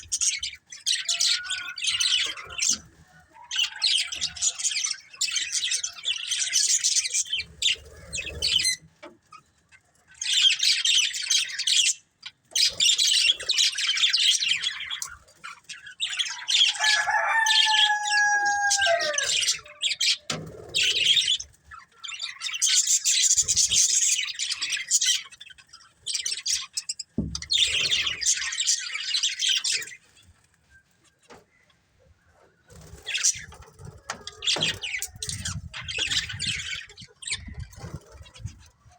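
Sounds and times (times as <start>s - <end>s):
budgerigars chattering and chirping: 0.0s - 30.3s, 32.3s - 38.9s.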